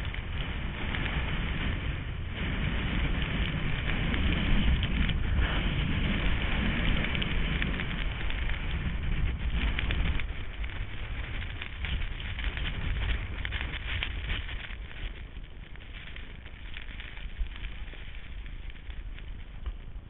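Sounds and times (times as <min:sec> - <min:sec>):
skis scraping over snow: 0:00.0 - 0:20.0
wind buffeting microphone: 0:00.0 - 0:20.0.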